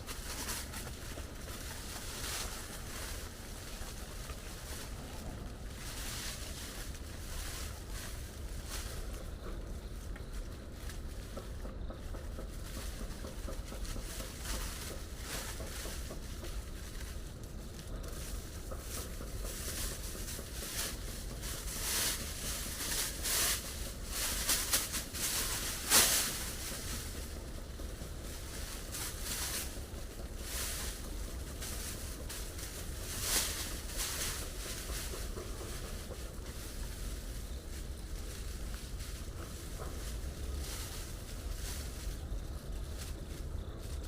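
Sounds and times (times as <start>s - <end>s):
low wind rumble: 0.0s - 44.0s
rain hiss: 0.0s - 44.0s
rushing or rustling noises: 0.0s - 44.0s.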